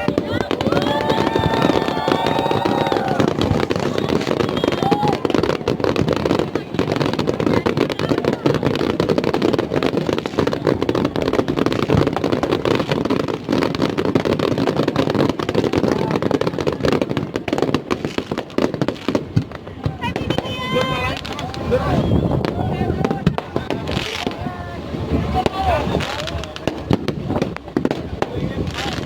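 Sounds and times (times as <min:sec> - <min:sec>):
fireworks crackling bangs: 0:00.0 - 0:29.0.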